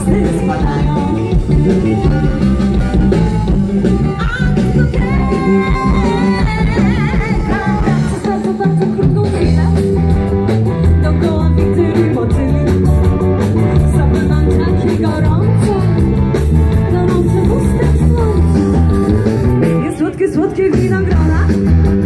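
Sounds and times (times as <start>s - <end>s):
person singing: 0.0s - 10.0s, 10.8s - 19.0s
live rock band playing: 0.0s - 22.0s.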